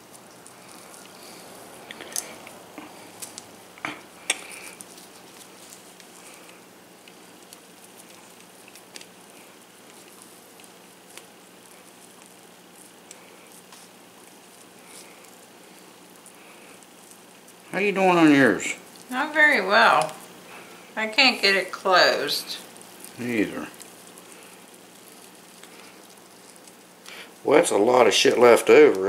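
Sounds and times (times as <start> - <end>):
crumbly mixture crackling in hands: 0.0 - 29.0.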